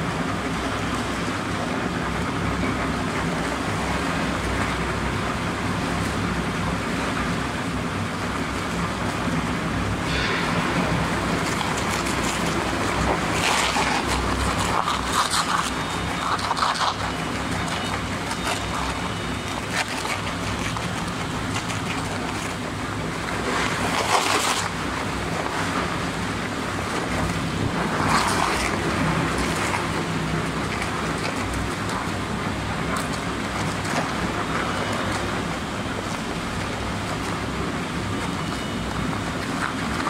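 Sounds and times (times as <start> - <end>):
crusher shredding paper sacks: 1.8 - 40.0.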